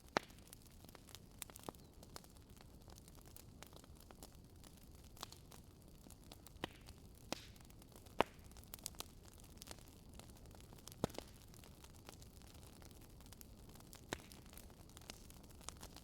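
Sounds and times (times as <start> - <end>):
faint fire hiss: 0.0 - 16.0
wood fire crackling: 0.0 - 16.0.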